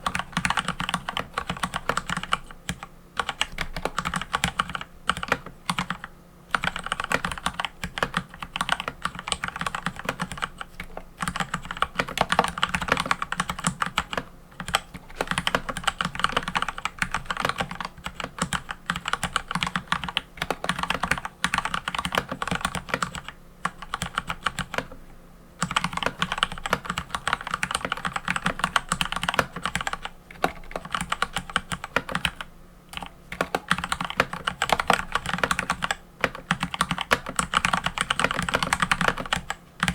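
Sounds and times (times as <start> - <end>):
mechanical keyboard typing: 0.0 - 25.0, 25.6 - 39.9.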